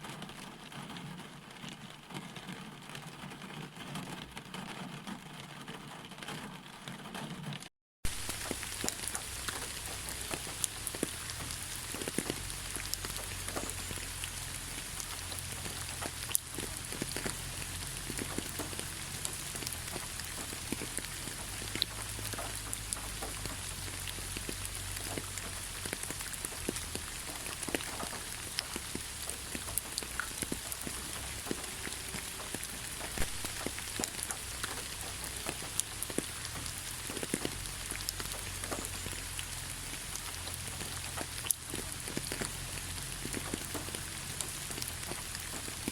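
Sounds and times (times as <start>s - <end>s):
raindrops striking close by: 0.0s - 45.9s
steady rain: 0.0s - 45.9s.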